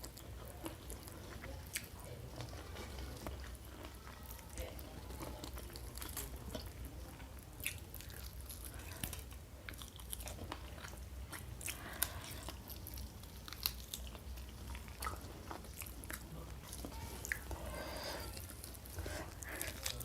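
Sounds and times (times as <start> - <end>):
person chewing and crunching food: 0.0 - 20.0.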